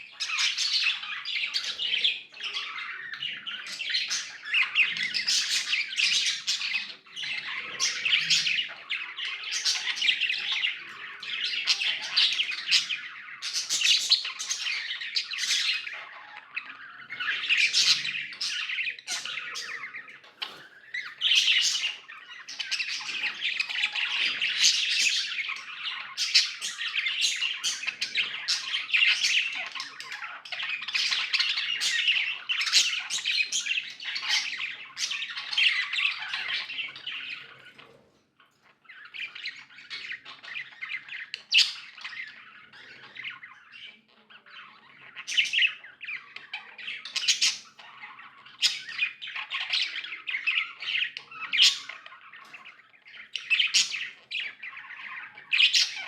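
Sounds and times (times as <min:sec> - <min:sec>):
budgies chattering and chirping: 0:00.0 - 0:56.0.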